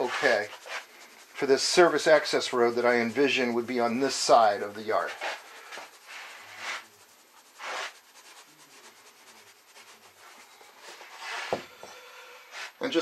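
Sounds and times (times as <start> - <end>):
grit hissing from shaker bottle: 0.0 - 11.6.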